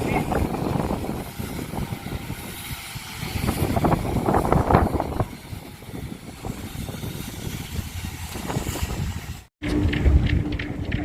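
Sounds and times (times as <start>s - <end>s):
machinery engine running: 0.0s - 11.0s.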